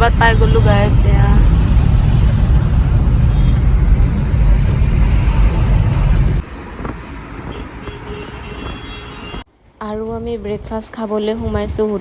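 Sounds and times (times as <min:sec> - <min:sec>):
car road and wind noise: 0:00.0 - 0:10.8.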